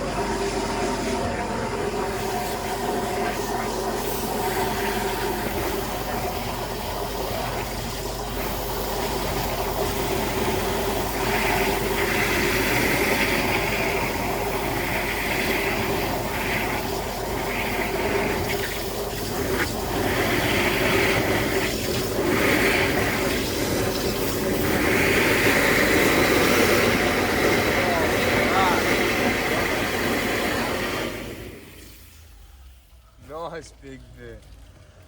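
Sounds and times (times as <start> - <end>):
water jetter pump running: 0.0 - 35.0
water rushing and splashing: 4.2 - 33.7.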